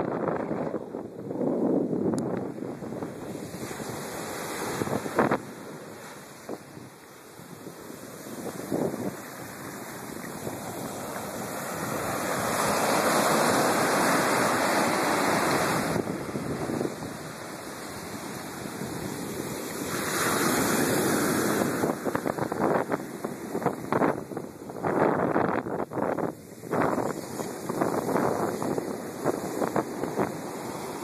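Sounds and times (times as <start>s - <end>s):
waves breaking on beach: 0.1s - 31.0s.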